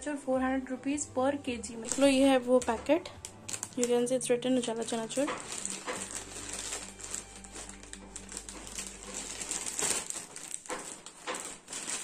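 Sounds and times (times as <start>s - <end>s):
plastic packets crinkling: 1.8s - 12.0s.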